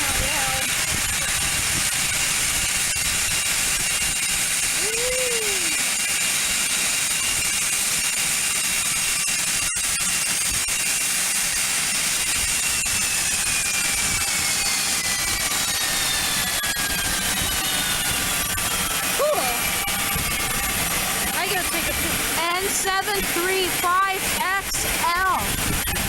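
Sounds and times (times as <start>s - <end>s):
jet engines hissing and whining: 0.0s - 26.0s.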